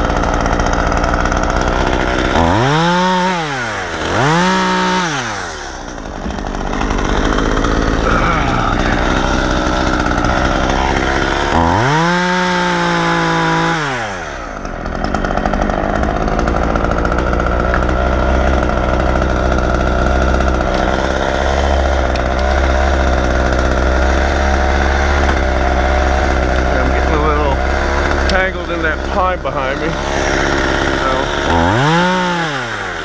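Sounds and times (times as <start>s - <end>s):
low engine drone: 0.0s - 32.7s
chainsaw revving and idling: 0.0s - 33.0s.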